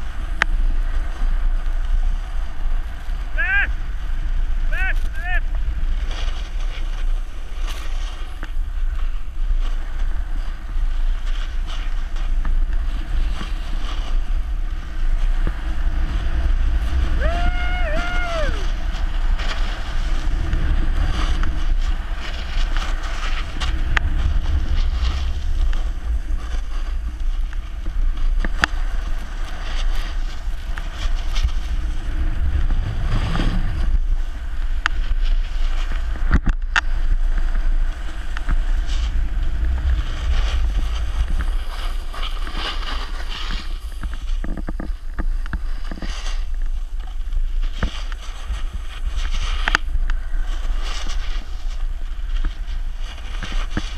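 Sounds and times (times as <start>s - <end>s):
snowboard scraping over snow: 0.0s - 53.9s
wind on microphone: 0.0s - 53.9s.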